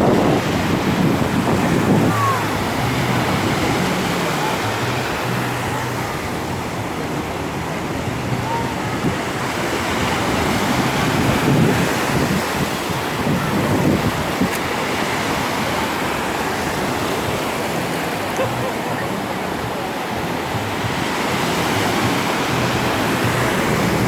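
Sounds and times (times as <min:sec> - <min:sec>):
surf breaking on shore: 0:00.0 - 0:24.0
wind buffeting microphone: 0:00.0 - 0:24.0.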